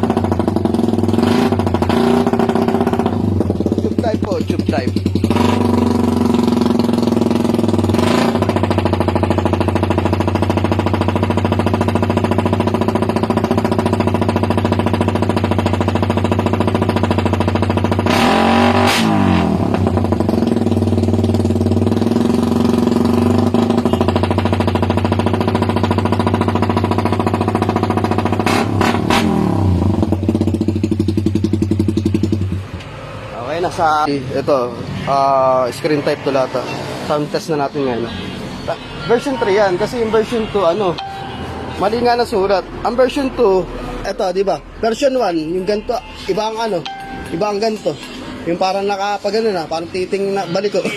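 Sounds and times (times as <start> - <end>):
motorcycle idling and revving: 0.0 - 50.9.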